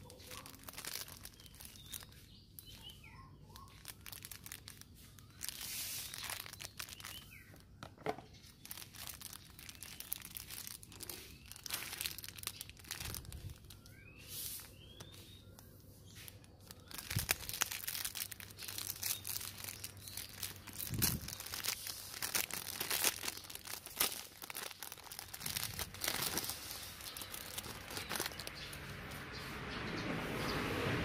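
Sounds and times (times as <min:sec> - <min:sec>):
foil pouch crinkling and tearing: 0:00.0 - 0:29.1.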